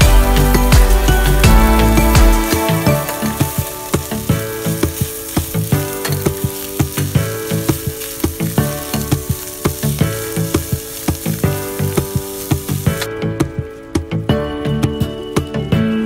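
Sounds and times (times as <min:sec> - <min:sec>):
food sizzling in oil: 0:00.0 - 0:15.4
background music: 0:00.0 - 0:16.0.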